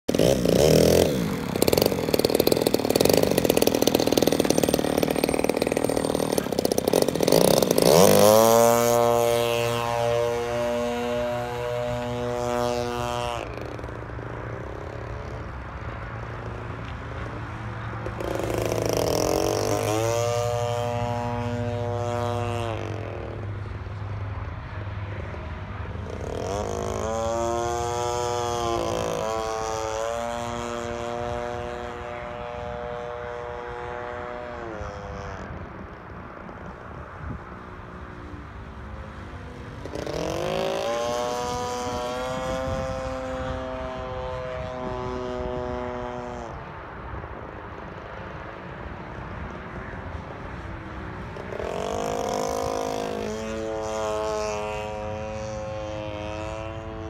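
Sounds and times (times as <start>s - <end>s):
model airplane engine: 0.0s - 57.0s.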